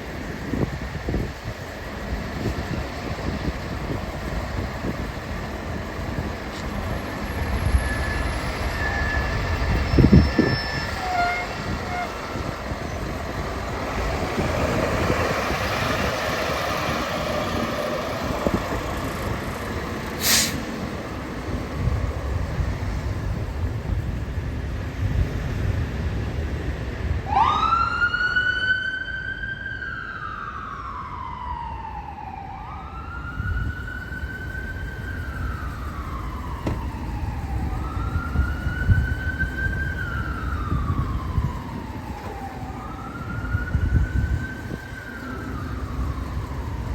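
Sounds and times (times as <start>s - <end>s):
emergency siren wailing: 0.0s - 20.1s, 27.1s - 46.9s
passing vehicles road noise: 0.0s - 46.9s.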